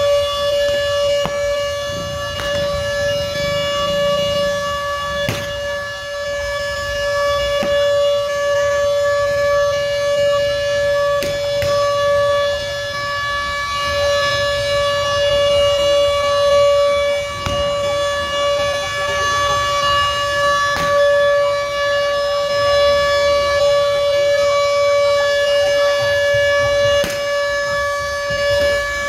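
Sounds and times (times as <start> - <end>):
murmur of a large crowd: 0.0 - 29.0
steady siren-like tone: 0.0 - 29.0.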